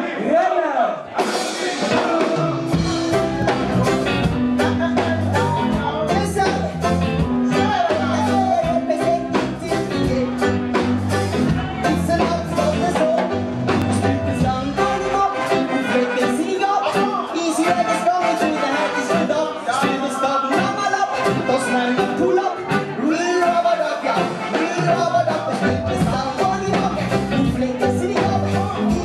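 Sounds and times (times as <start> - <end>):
reggae band playing: 1.0 - 29.0
person singing: 1.2 - 29.0.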